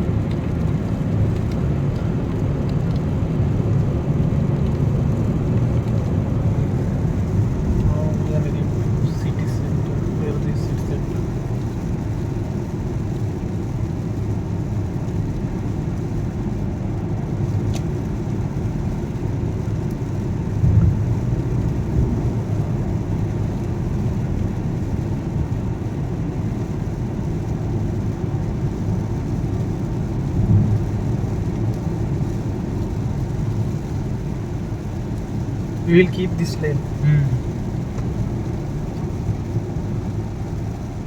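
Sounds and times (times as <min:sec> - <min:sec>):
car engine and tyre rumble: 0:00.0 - 0:41.0.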